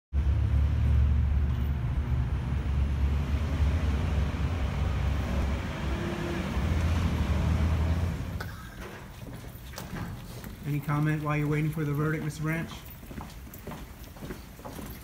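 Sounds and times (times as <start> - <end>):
road traffic rumble: 0.1 - 15.0.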